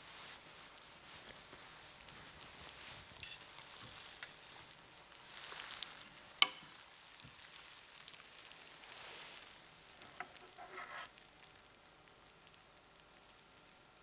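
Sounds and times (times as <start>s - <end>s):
rustling cloth and objects: 0.0s - 11.2s.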